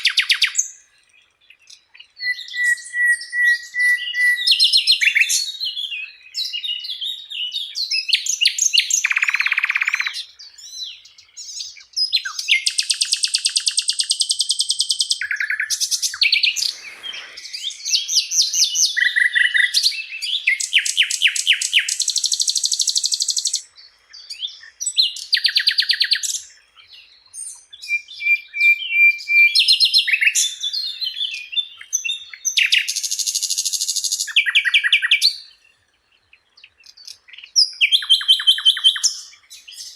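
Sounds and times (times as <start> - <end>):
flycatcher singing trills: 0.0 - 39.9.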